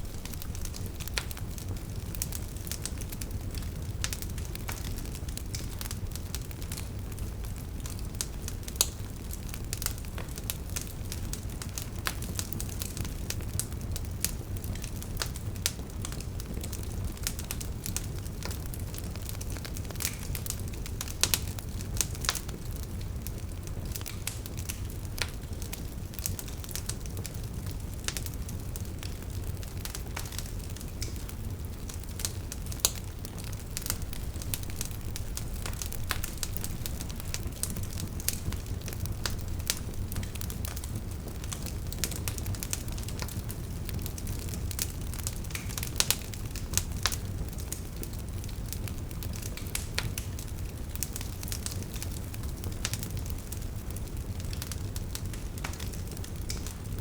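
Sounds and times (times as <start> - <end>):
crackles and pops from logs: 0.0 - 57.0
wood fire rumbling: 0.0 - 57.0.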